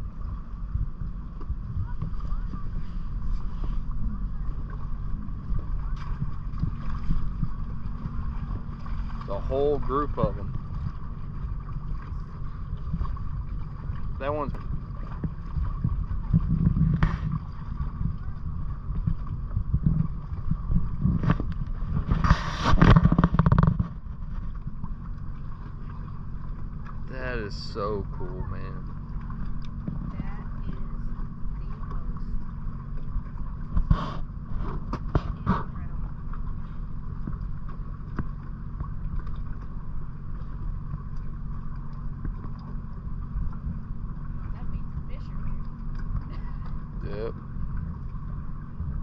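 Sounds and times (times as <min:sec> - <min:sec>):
boat engine rumble and whine: 0:00.0 - 0:49.0.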